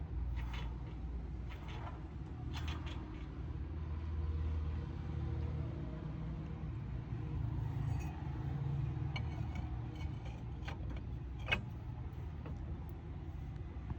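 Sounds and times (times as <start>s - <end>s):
car engine and tyres rumbling: 0.0s - 13.9s.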